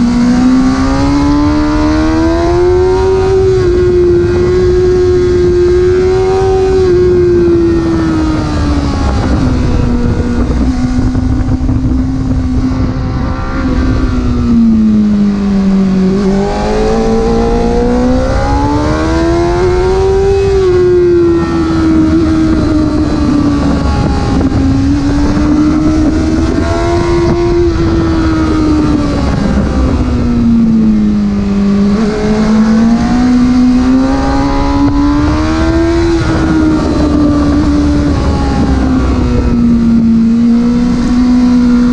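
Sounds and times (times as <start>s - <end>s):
car engine revving: 0.0s - 41.9s
road noise rumble: 0.0s - 41.9s.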